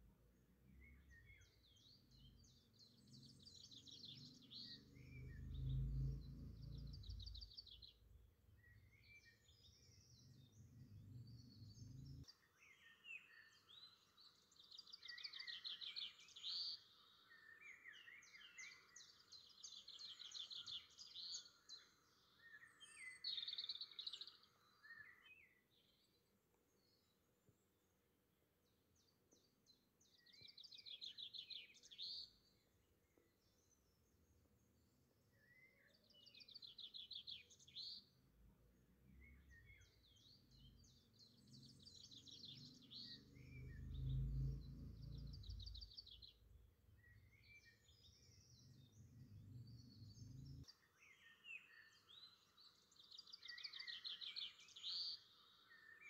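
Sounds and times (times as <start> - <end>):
small birds trilling and chirping: 0.0 - 56.0.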